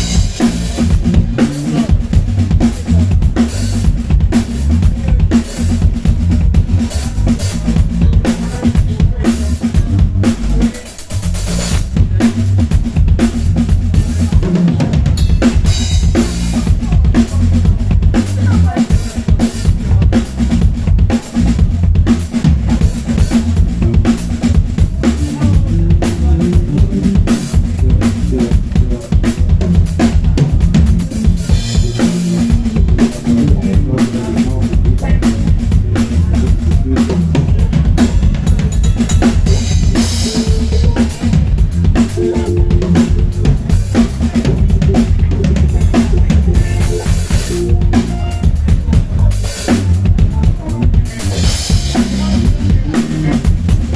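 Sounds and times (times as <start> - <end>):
drum kit playing: 0.0 - 53.9.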